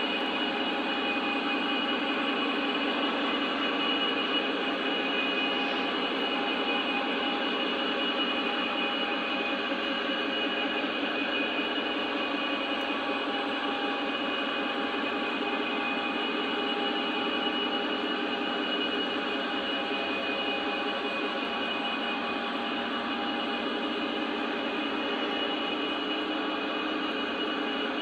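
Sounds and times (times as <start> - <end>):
motor whine: 0.0 - 28.0.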